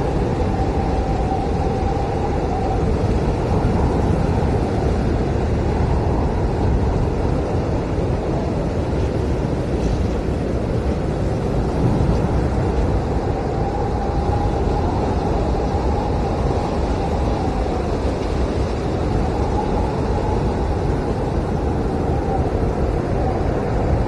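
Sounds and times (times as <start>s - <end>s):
howling whistle: 0.0s - 7.1s, 11.6s - 24.0s
blizzard wind blowing: 0.0s - 24.0s.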